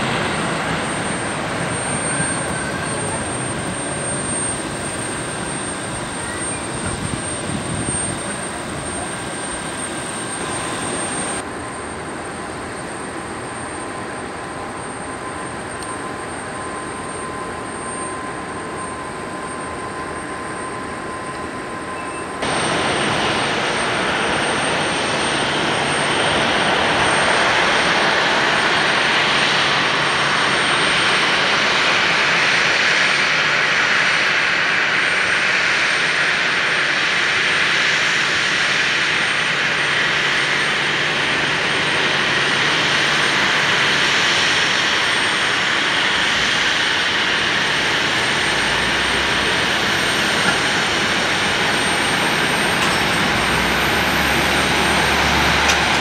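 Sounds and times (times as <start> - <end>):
airliner climbing away: 0.0 - 56.0
airliner rolling out after landing: 0.0 - 56.0
jet engines taxiing: 0.0 - 56.0.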